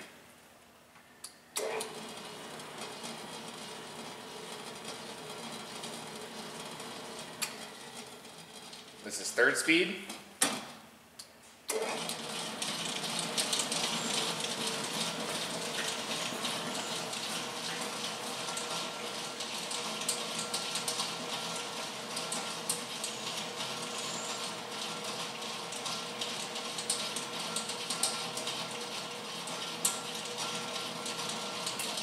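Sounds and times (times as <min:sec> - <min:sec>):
mixer motor hum with whine: 0:01.6 - 0:09.1, 0:11.7 - 0:32.0.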